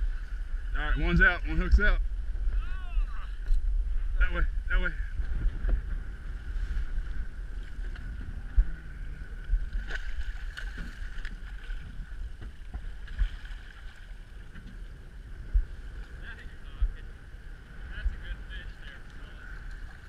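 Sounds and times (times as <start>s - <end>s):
steady high hum: 0.0s - 20.0s
wind rumbling on microphone: 0.0s - 20.0s.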